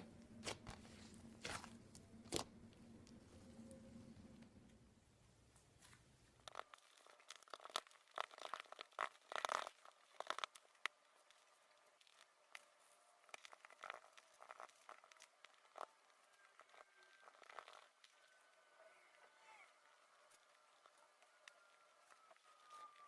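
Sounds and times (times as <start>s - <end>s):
slime squeezed by hand crackling: 0.0s - 3.2s, 5.8s - 23.0s.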